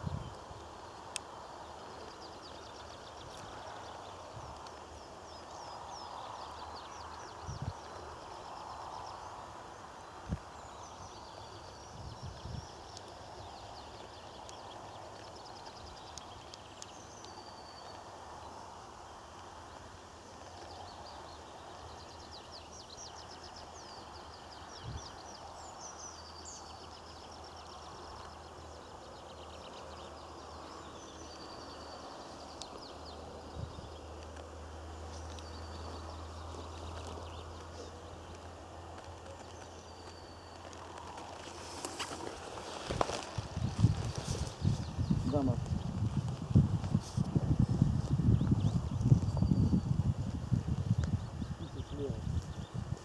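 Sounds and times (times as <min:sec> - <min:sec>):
open-air background noise: 0:00.0 - 0:53.0
small birds chirping: 0:00.0 - 0:53.0.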